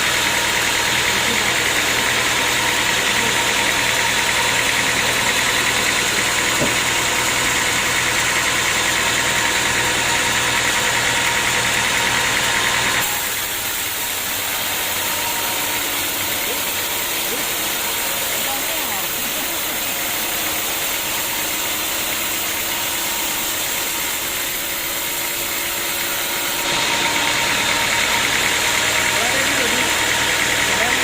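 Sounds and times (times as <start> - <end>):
sawmill machinery running: 0.0 - 31.0.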